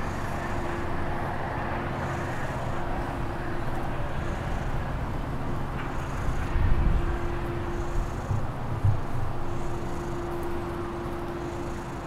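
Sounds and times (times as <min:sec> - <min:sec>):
low hum: 0:00.0 - 0:12.0
outdoor background rumble: 0:00.0 - 0:12.0.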